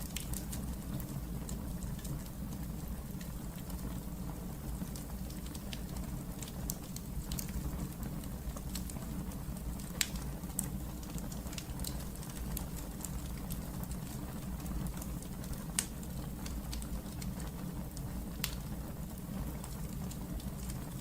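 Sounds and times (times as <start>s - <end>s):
fire crackles and pops: 0.0s - 21.0s
wood fire burning: 0.0s - 21.0s.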